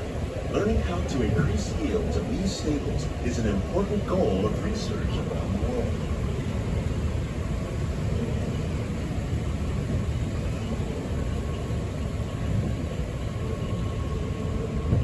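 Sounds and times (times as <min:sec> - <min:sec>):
boat rumbling through water: 0:00.0 - 0:15.0.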